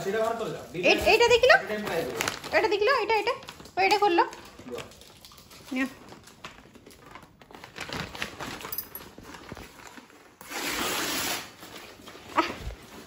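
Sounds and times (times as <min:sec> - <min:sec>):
paper mailer crinkling: 0:00.0 - 0:04.9, 0:06.0 - 0:13.0.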